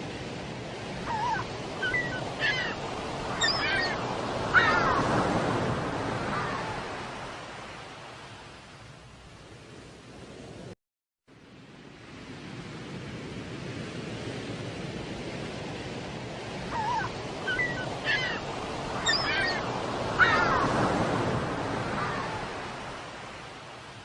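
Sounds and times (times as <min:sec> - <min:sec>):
sea waves washing in: 0:00.0 - 0:10.8, 0:11.4 - 0:24.0.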